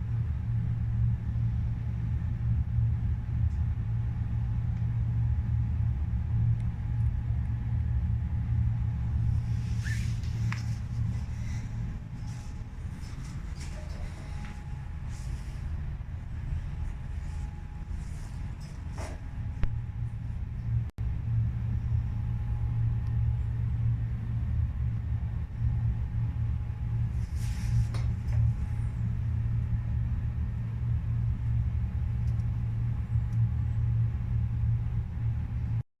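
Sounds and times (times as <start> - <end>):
steady low rumble: 0.0 - 35.8.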